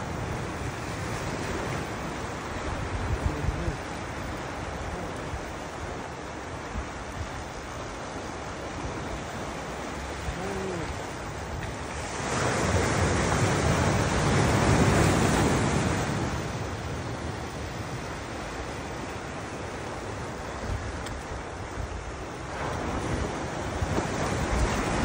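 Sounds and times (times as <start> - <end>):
ocean surf washing on shore: 0.0 - 25.0.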